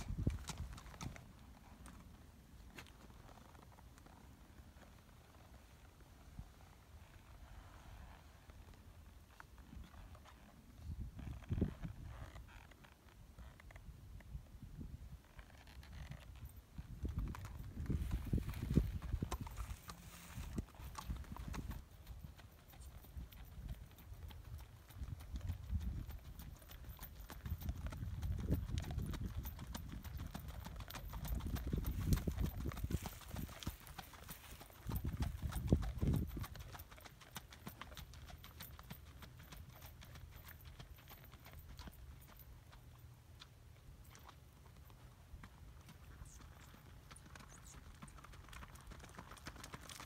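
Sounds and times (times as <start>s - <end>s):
horse hoofbeats on dirt: 0.0s - 13.7s, 15.3s - 50.0s.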